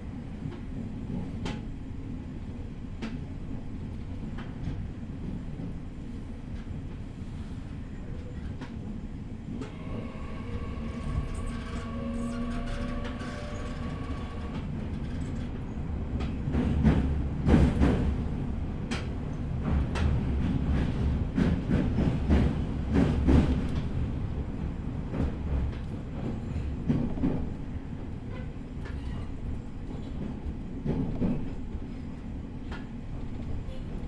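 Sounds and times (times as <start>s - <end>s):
low rumble of train wheels: 0.0s - 34.0s.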